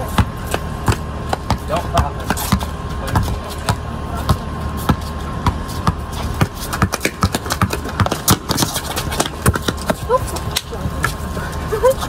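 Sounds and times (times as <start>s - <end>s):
basketball bouncing on concrete: 0.0s - 11.3s
footsteps on pavement: 0.0s - 12.0s.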